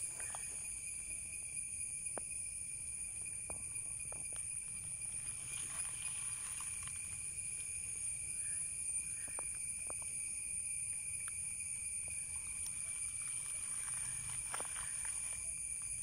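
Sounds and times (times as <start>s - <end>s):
high-pitched insect drone: 0.0s - 9.6s, 11.5s - 16.0s.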